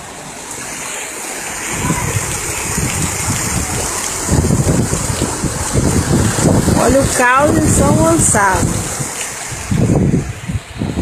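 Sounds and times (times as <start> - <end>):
floodwater rushing: 0.0 - 11.0
wind buffeting microphone: 0.0 - 11.0.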